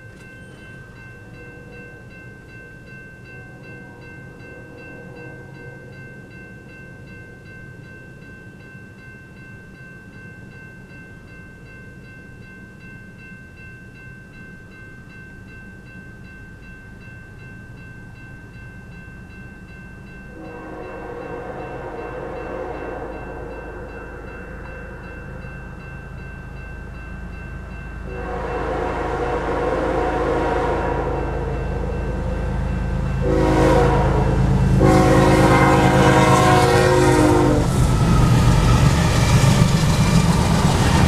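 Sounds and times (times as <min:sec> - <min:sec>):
crossing warning bell ringing: 0:00.0 - 0:41.0.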